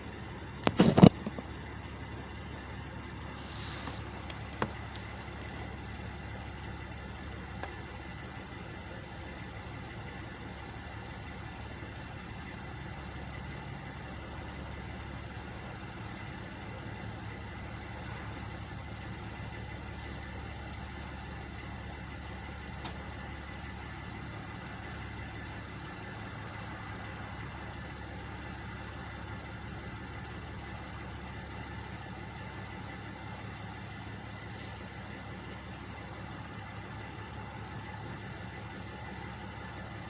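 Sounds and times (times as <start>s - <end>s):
truck engines idling: 0.0s - 40.0s.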